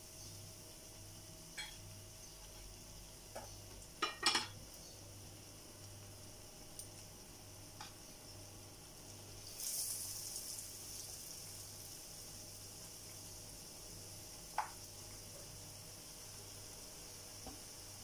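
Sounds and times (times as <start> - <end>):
frying sizzle in oil: 0.0 - 18.0.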